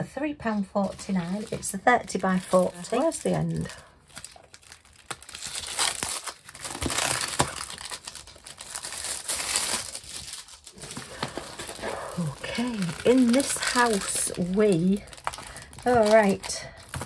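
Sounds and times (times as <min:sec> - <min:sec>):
plastic packaging crinkling: 0:00.8 - 0:17.0.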